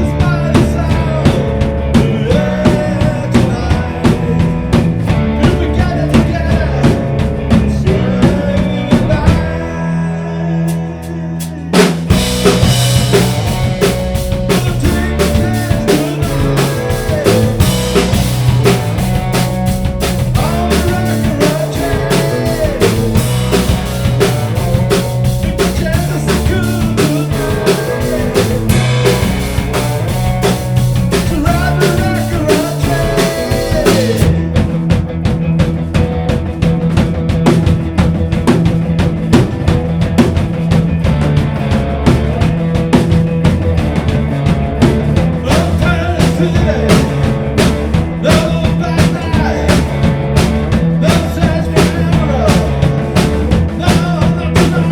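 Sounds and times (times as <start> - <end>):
drum kit beat: 0.0 - 9.7, 10.7 - 54.9
rock band playing: 0.0 - 54.9.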